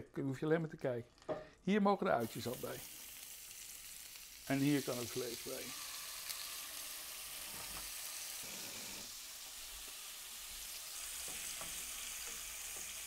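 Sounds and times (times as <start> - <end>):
onions frying: 2.1 - 13.0
steak searing in a pan: 2.2 - 13.0.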